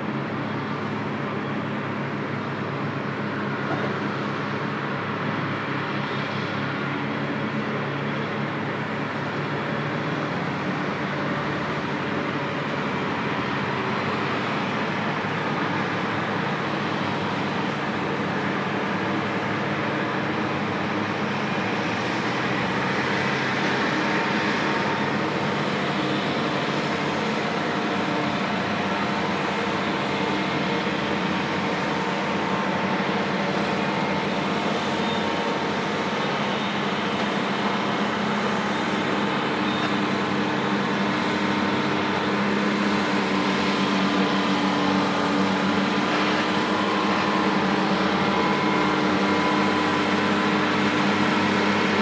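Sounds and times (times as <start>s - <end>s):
two-stroke diesel engines running: 0.0s - 52.0s.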